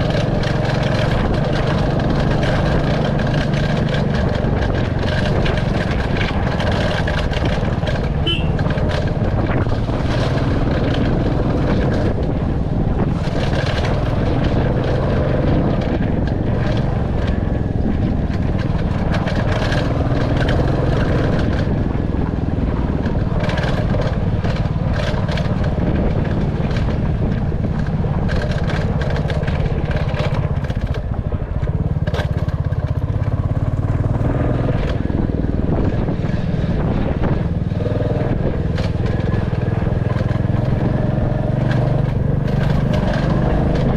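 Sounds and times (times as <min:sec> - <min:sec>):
sharp clicks and knocks: 0:00.0 - 0:12.4, 0:13.0 - 0:43.9
motorcycle engine running: 0:00.0 - 0:43.9.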